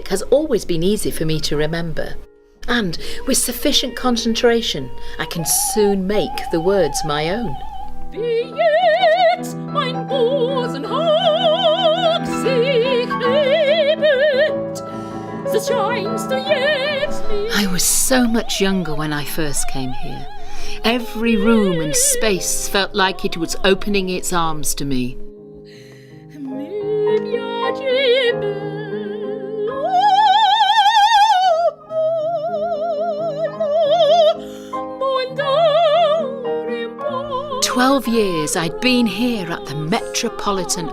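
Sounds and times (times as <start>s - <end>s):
soprano singing with vibrato: 2.8s - 25.2s, 26.3s - 40.9s.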